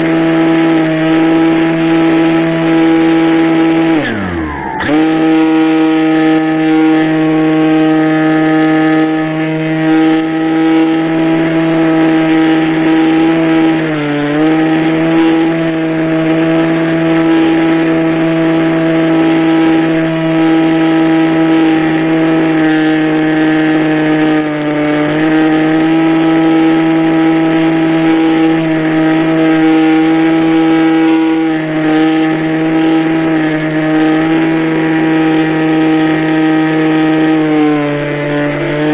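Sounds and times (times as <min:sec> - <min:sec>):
model airplane motor running: 0:04.8 - 0:38.9.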